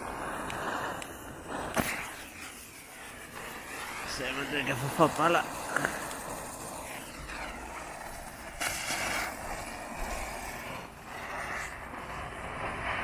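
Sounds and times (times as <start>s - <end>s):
firework burst: 0.0s - 13.0s
fireworks hissing: 0.0s - 13.0s.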